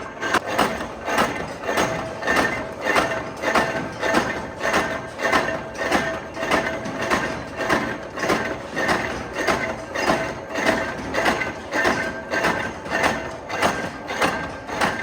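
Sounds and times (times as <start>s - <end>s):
metalworking machine clanking: 0.0s - 15.0s.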